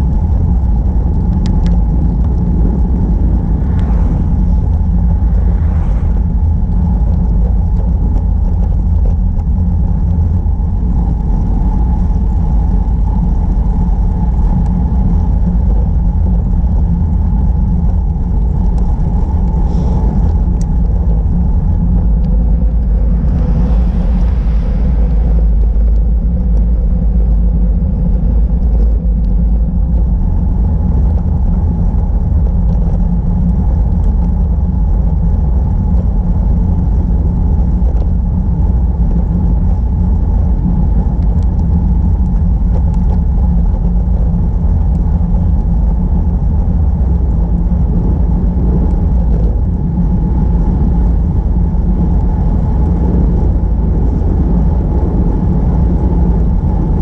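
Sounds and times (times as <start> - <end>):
tyre noise on asphalt: 0.0 - 57.0
wind rumble on microphone: 0.0 - 57.0.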